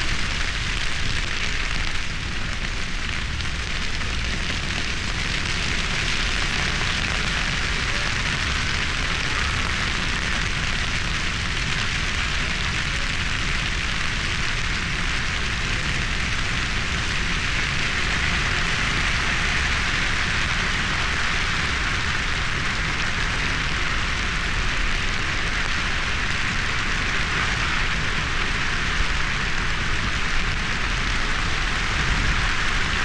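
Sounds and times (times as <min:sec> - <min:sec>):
grass fire crackling: 0:00.0 - 0:33.0.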